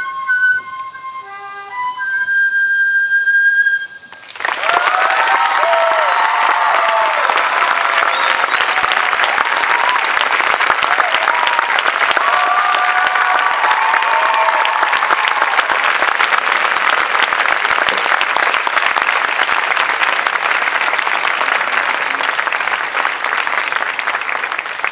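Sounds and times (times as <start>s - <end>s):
audience applauding: 4.2s - 24.9s.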